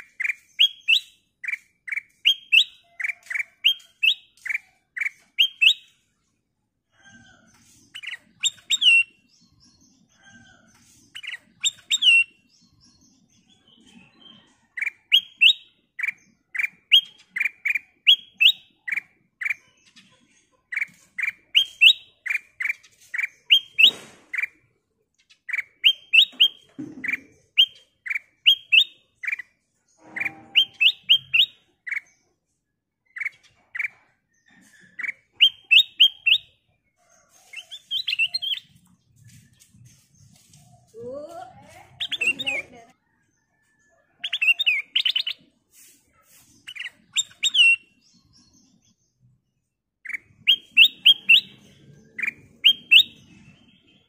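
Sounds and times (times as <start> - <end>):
bird singing bright chirps: 0.0 - 54.0.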